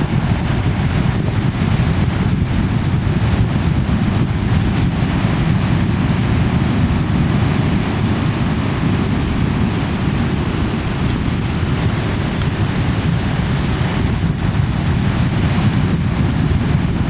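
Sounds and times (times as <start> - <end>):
ocean waves crashing: 0.0 - 17.0
wind buffeting microphone: 0.0 - 17.0.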